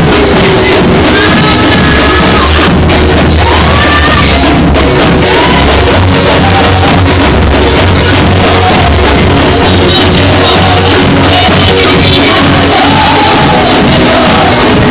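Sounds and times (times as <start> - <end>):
heavy bass: 0.0 - 14.9
steady drum beat: 0.0 - 14.9
voices singing and shouting: 0.0 - 14.9.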